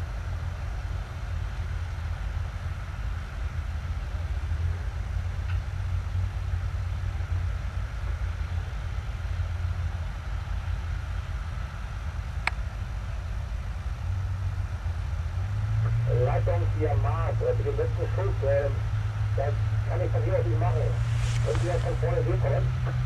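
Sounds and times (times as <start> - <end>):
diesel engine rumbling: 0.0 - 23.0
faint whine: 0.0 - 23.0.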